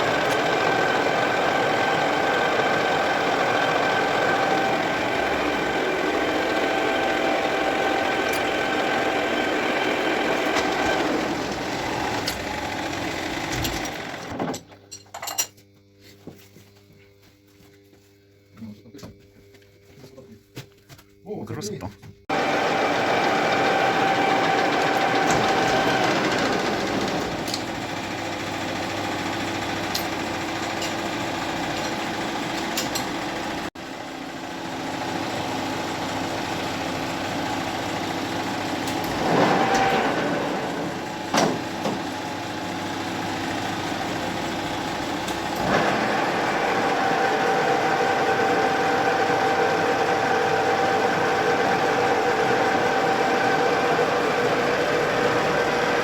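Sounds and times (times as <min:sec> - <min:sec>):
metal lathe humming: 0:00.0 - 0:14.3, 0:22.3 - 0:56.0.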